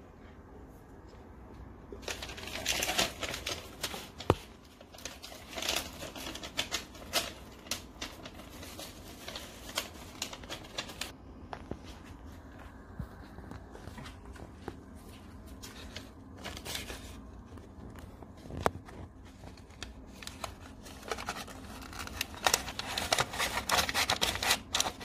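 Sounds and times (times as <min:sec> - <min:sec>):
crinkly rustling: 0:01.9 - 0:25.0.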